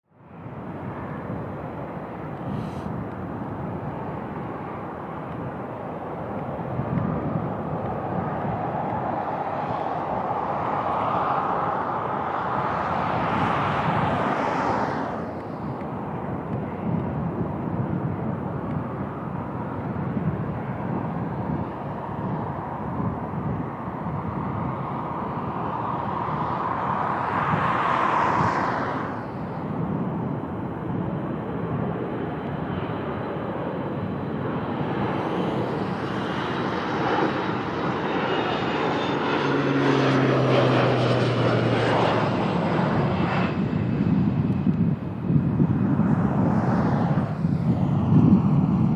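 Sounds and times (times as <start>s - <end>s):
turboprop plane passing low: 0.1s - 48.9s
wind buffeting microphone: 0.3s - 48.9s.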